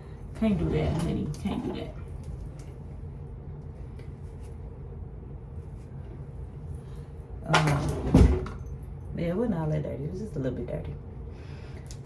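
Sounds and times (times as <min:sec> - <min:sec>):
room background hum: 0:00.0 - 0:12.0.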